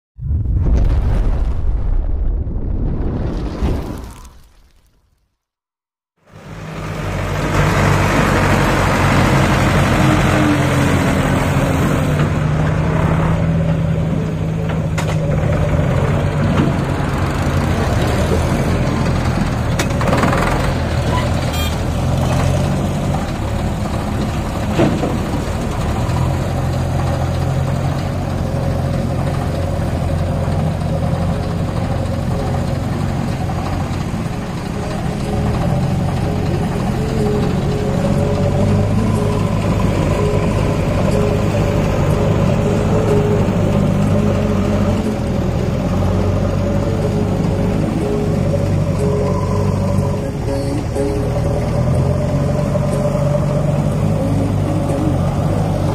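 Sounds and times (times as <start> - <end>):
tractor diesel engine running: 6.2 - 55.9.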